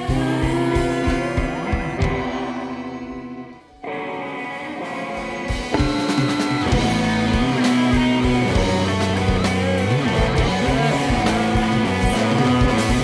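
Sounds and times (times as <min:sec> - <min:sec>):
drums: 0:00.0 - 0:13.0
electric guitar chords: 0:00.0 - 0:13.0.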